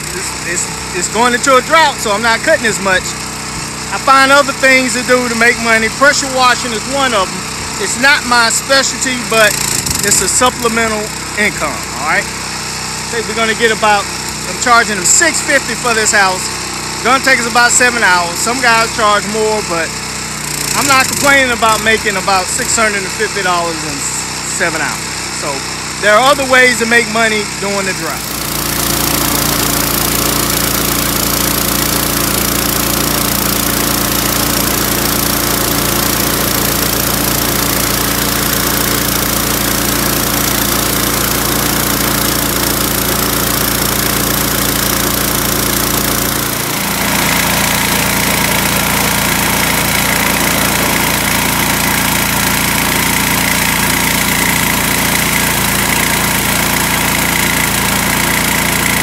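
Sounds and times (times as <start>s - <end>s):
pressure washer running: 0.0s - 59.0s.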